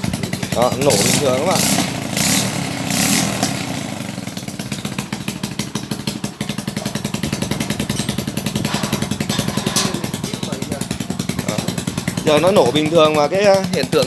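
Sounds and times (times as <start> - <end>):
motorcycle engine idling: 0.0 - 14.0
motorcycle kick start: 0.0 - 14.0.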